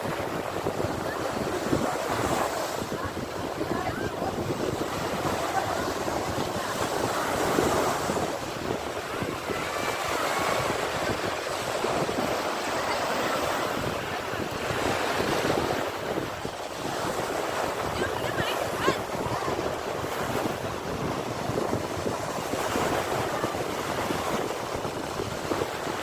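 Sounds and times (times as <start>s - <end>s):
sea waves breaking on shore: 0.0s - 26.0s.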